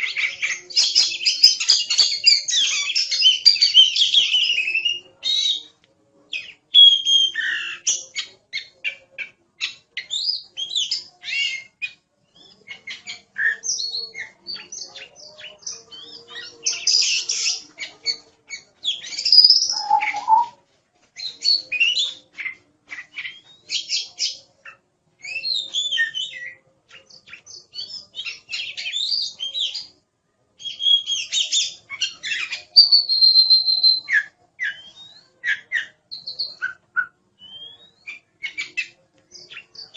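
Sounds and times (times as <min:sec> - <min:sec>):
bird singing whistles and trills: 0:00.0 - 0:05.7, 0:06.4 - 0:09.0, 0:09.6 - 0:20.6, 0:21.2 - 0:24.4, 0:25.2 - 0:29.9, 0:30.6 - 0:39.9.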